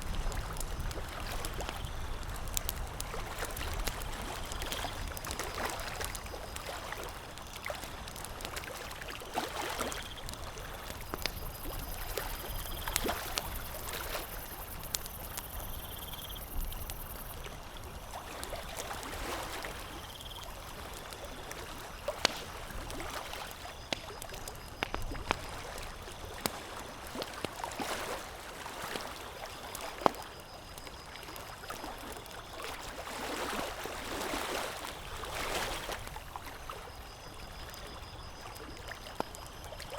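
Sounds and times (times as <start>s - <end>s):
campfire crackling and popping: 0.0s - 33.0s, 35.7s - 39.9s.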